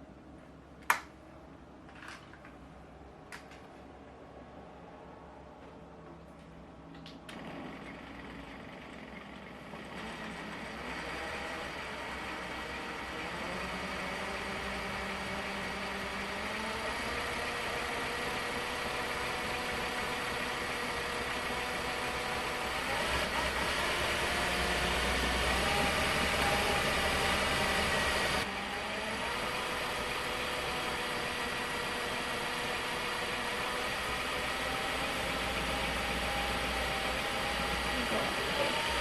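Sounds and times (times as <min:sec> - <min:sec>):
sewing machine motor hum: 0:07.3 - 0:39.0.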